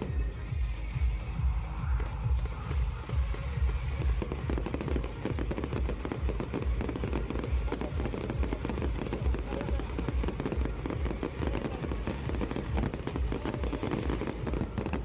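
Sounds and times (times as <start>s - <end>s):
fireworks crackling: 0.0s - 15.0s
fireworks booming: 2.3s - 15.0s.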